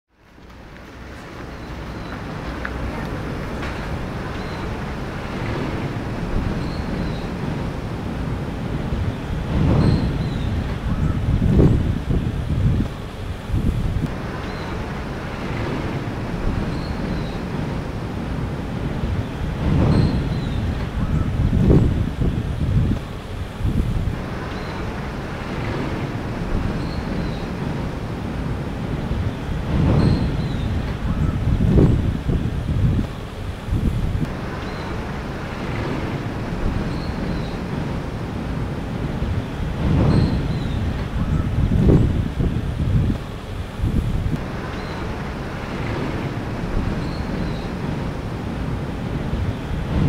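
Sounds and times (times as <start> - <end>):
wind buffeting microphone: 0.2 - 50.0.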